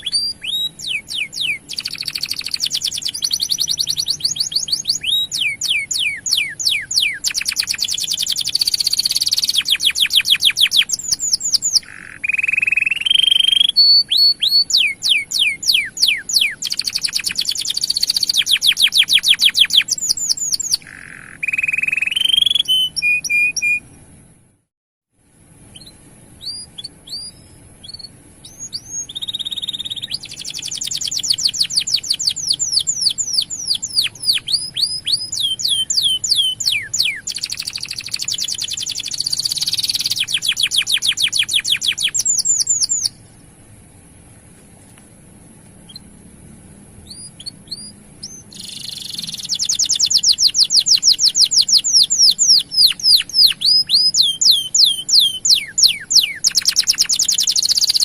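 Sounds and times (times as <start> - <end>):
canary singing trills: 0.0 - 24.1, 25.6 - 43.6, 45.8 - 46.2, 47.0 - 58.0.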